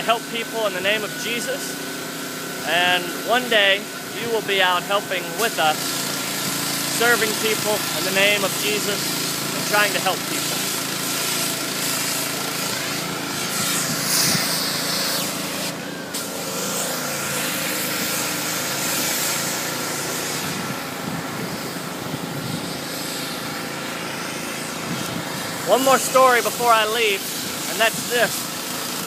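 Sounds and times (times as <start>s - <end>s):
motor humming: 0.0s - 29.0s.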